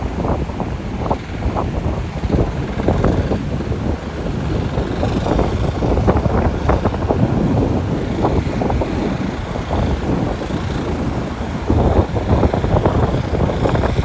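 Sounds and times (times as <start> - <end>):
boat engine noise: 0.0 - 14.0
low rush of sea: 0.0 - 14.0
wind buffeting microphone: 0.0 - 14.0.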